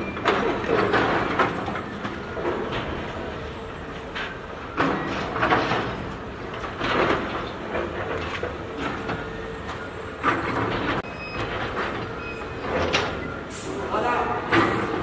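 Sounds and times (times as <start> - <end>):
machinery engine hum: 0.0 - 15.0.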